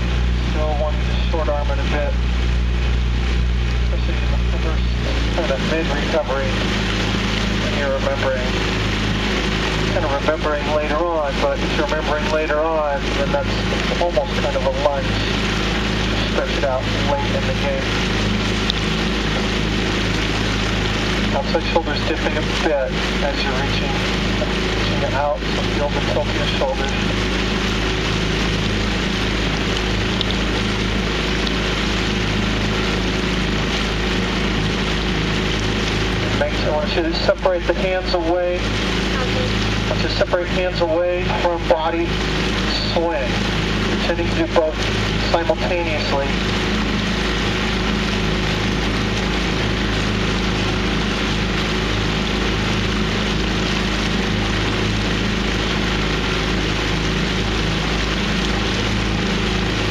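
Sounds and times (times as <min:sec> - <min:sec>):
outboard motor humming: 0:00.0 - 0:59.9
water noise: 0:00.0 - 0:59.9
wind: 0:00.0 - 0:59.9.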